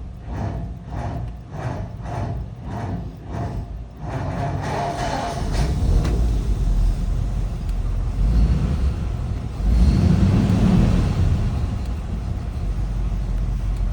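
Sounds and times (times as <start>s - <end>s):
engine rumbling: 0.0s - 13.9s.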